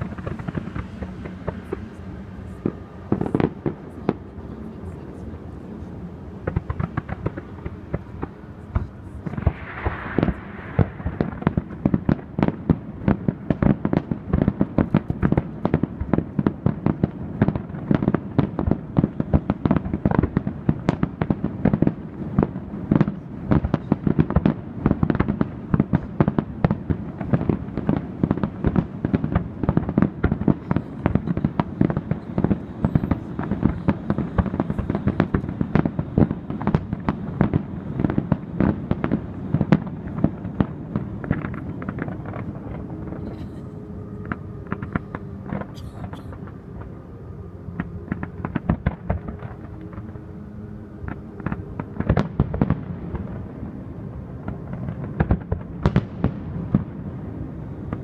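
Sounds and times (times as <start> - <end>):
hissing crackle: 0.0 - 5.5, 6.4 - 50.2
fireworks bangs: 0.0 - 47.0, 47.7 - 50.2, 51.0 - 58.0.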